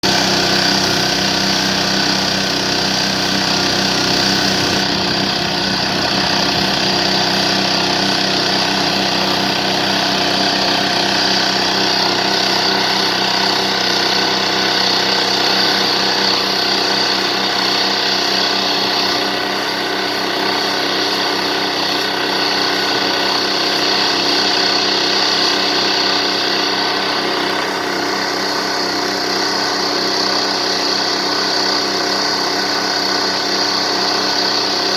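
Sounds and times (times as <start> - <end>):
machine drone with high whine: 0.0 - 34.9.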